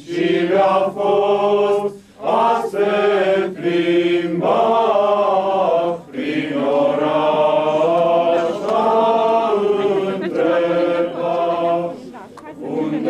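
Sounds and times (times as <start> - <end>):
choir singing chant: 0.0 - 13.0.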